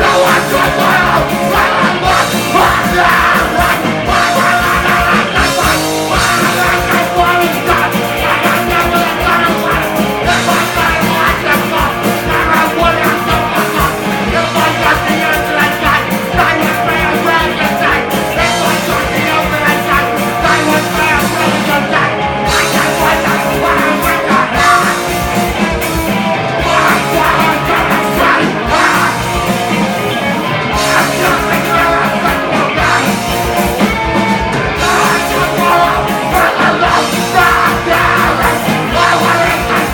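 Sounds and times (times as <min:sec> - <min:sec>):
person singing: 0:00.0 - 0:39.9
punk rock band playing live: 0:00.0 - 0:39.9.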